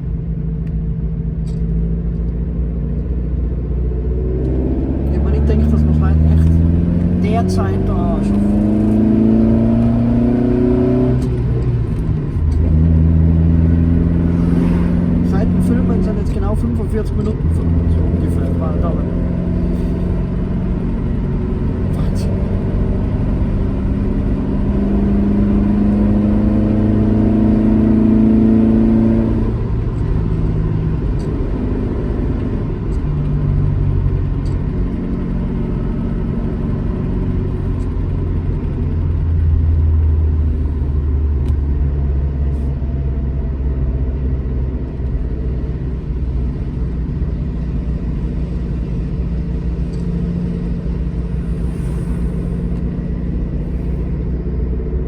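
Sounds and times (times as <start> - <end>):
road rumble: 0.0 - 55.0
car engine revving: 1.4 - 55.0.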